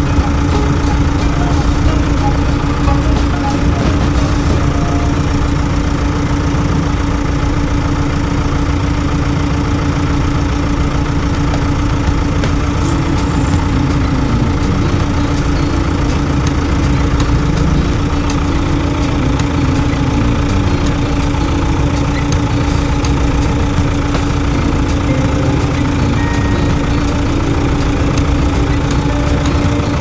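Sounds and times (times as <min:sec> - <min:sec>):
vehicle engines idling: 0:00.0 - 0:30.0.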